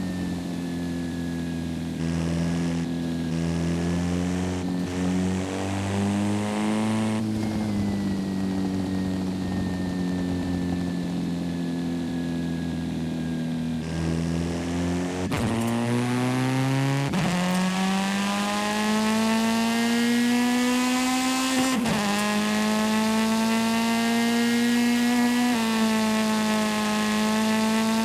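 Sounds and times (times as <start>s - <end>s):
video game car engine accelerating: 0.0s - 28.0s.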